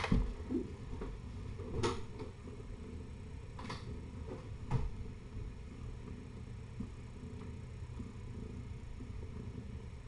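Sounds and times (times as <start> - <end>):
steady low rumble: 0.2 - 10.0.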